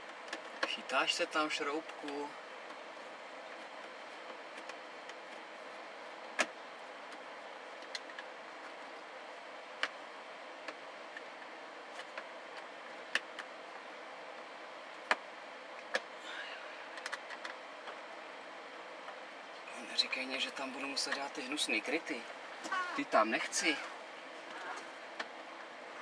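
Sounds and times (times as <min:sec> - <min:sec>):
steady low hiss: 0:00.0 - 0:26.0.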